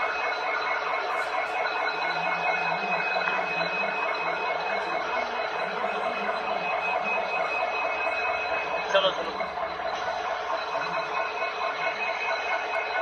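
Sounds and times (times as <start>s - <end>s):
locomotive cab running rumble: 0.0s - 13.0s.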